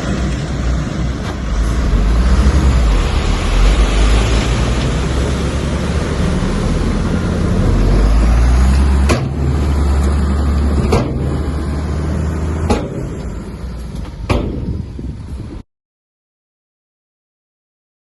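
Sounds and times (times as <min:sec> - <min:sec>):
diesel engine running under load: 0:00.0 - 0:15.6.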